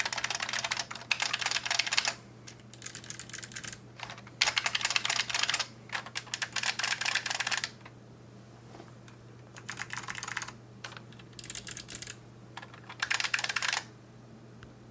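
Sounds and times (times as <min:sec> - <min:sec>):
mechanical keyboard typing: 0:00.0 - 0:07.8, 0:09.6 - 0:13.9.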